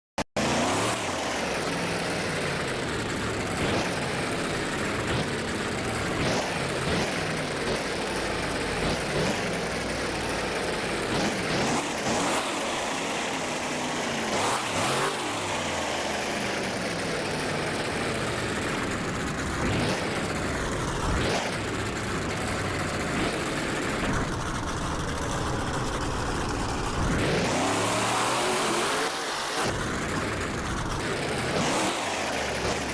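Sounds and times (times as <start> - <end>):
monster truck engine running: 0.3 - 32.9
engine throttle blips: 0.4 - 32.9.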